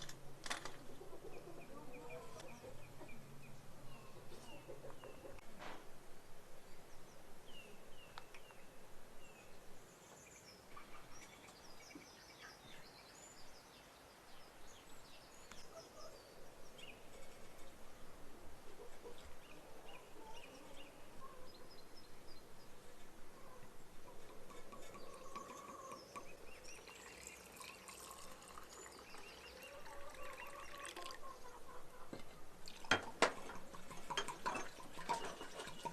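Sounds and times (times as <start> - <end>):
birds chirping: 0.7 - 5.4, 6.6 - 32.4, 33.4 - 35.9.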